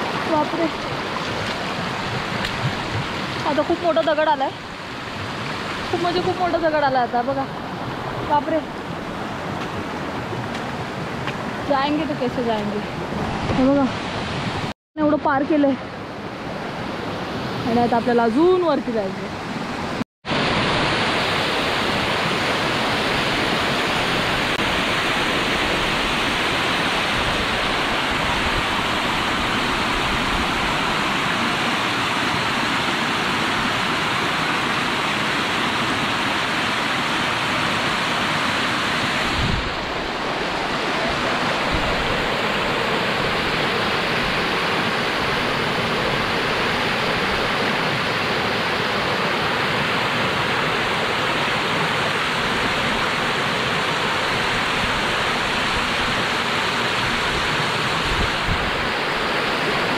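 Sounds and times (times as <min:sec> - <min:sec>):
stream rushing over rocks: 0:00.0 - 0:14.7, 0:15.3 - 0:59.9.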